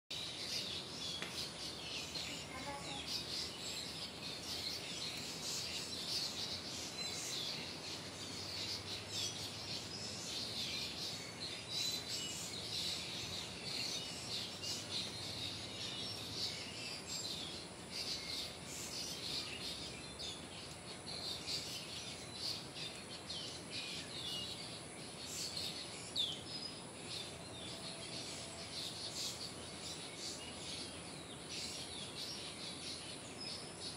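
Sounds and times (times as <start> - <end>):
background hiss: 0.1 - 33.9
small birds chirping: 0.1 - 33.9.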